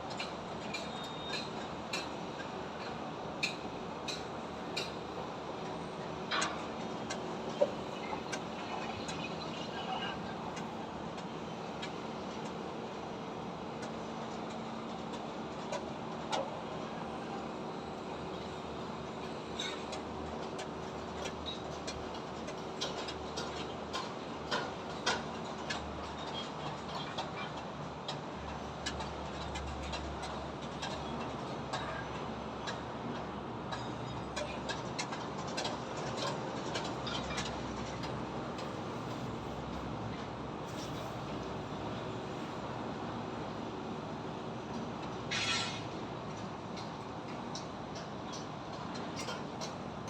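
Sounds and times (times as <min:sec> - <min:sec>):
hum of machinery: 0:00.0 - 0:50.0.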